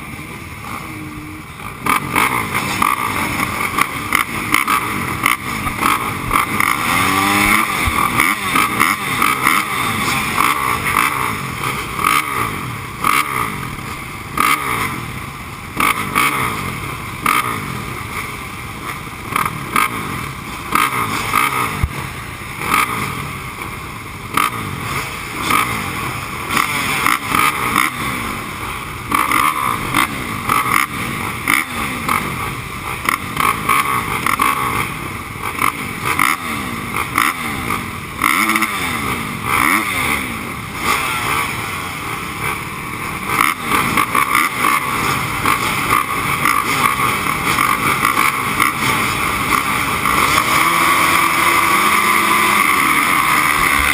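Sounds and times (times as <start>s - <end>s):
motocross engine revving: 0.0s - 53.9s.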